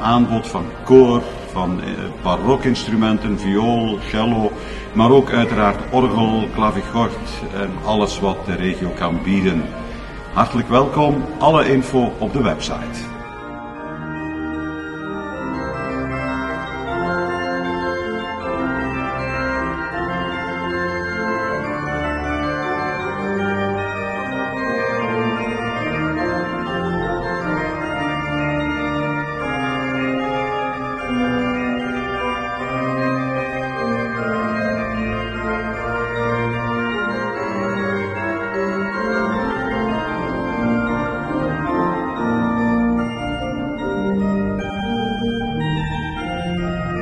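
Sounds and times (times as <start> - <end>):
pipe organ playing: 0.0 - 47.0.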